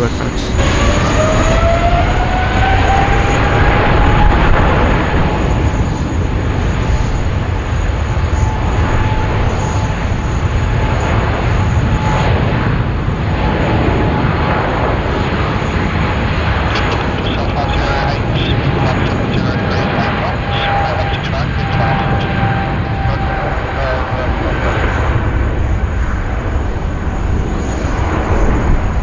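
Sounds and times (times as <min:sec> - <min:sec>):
jet engine whine: 0:00.0 - 0:29.0.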